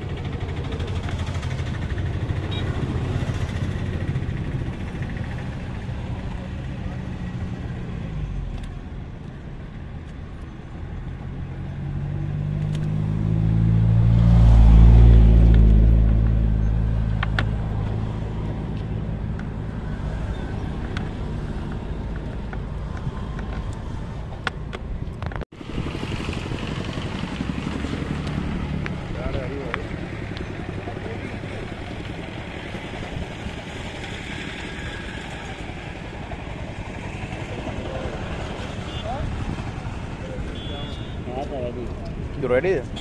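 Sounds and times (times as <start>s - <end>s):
engine passing by: 0.0s - 8.7s, 10.8s - 24.3s, 25.6s - 43.0s.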